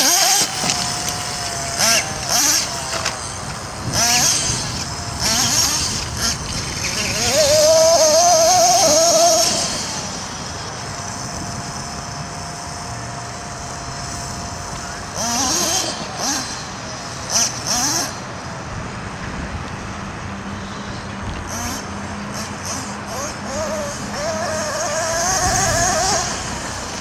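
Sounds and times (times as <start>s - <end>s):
small nitro engine revving: 0.0s - 27.0s.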